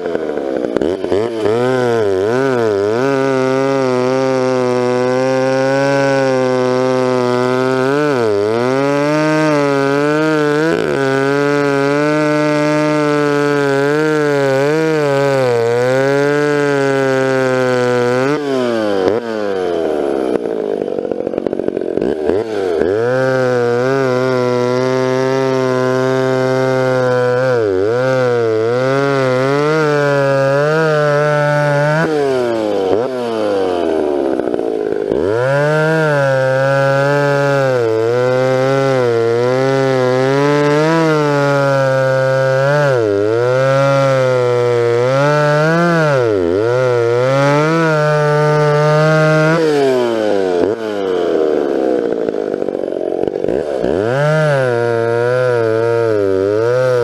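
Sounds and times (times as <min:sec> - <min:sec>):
chainsaw cutting through log: 0:00.0 - 0:57.0.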